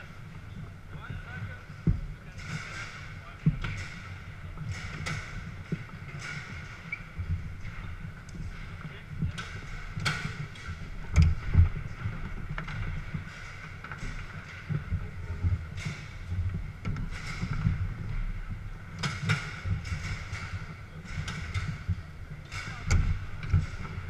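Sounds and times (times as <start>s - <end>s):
busy hall background noise: 0.0s - 24.0s
heavy thumps: 0.0s - 24.0s.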